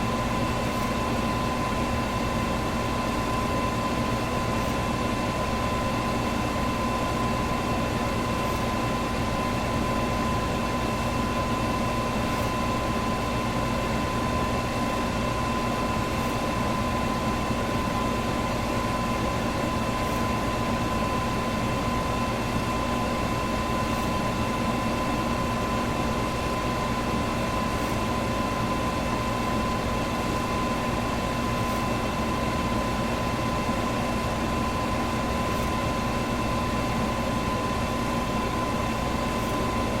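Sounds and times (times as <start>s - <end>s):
electric fan running: 0.0s - 40.0s.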